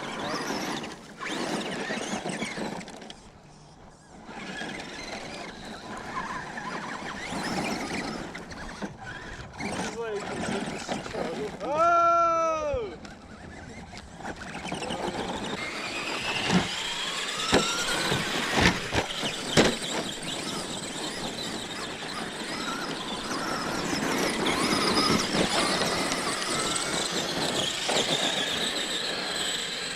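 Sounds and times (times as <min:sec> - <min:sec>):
electric motor whining: 0:00.0 - 0:29.9
tyre and ground noise: 0:00.0 - 0:29.9.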